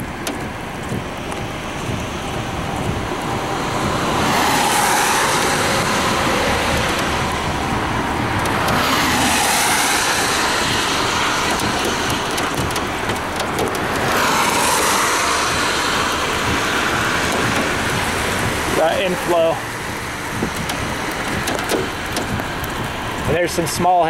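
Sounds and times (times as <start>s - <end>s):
cars passing close by: 0.0s - 24.0s
highway traffic rushing: 0.0s - 24.0s.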